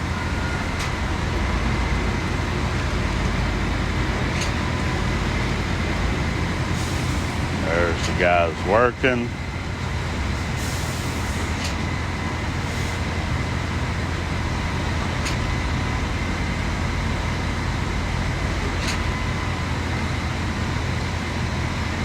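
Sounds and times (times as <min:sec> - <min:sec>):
diesel truck engines running: 0:00.0 - 0:22.0.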